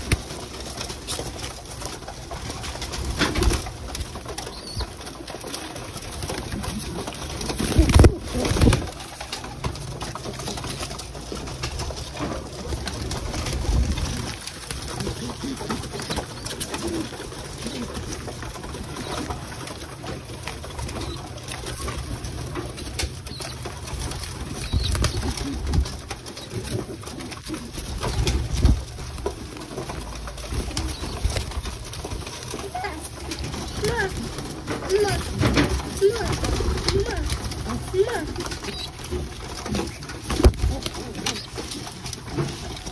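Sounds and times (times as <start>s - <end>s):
pigeons cooing: 0.0s - 42.9s
wings flapping: 0.0s - 42.9s.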